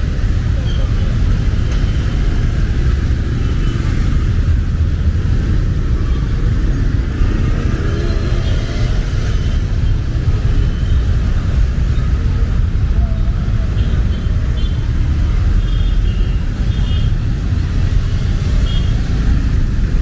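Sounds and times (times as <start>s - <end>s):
vehicle engines rumbling: 0.0s - 20.0s.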